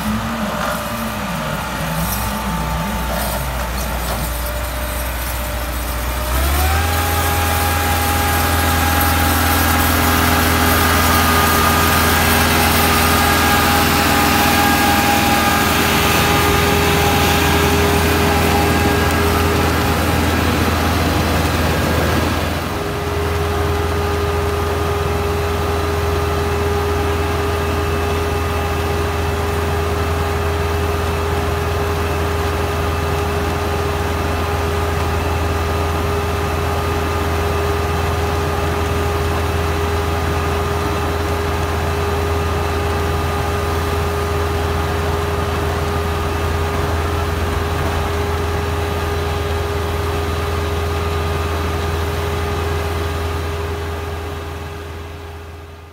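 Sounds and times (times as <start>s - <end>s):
constant machine whine: 0.0s - 55.9s
tractor diesel engine running: 0.0s - 55.9s.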